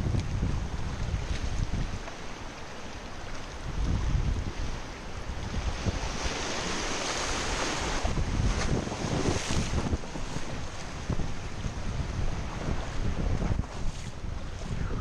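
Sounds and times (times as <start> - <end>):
wind buffeting microphone: 0.0 - 2.2, 3.5 - 15.0
surf washing over rocks: 0.0 - 15.0.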